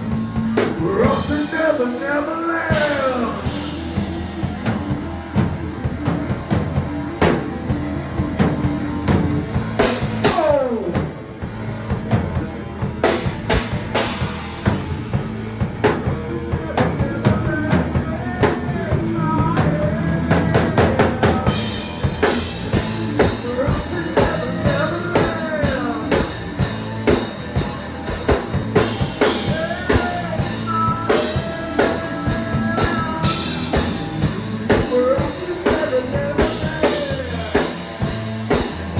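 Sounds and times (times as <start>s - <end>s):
bending lead guitar: 0.0s - 38.9s
drum kit beating: 0.0s - 38.9s
rock music: 0.0s - 38.9s.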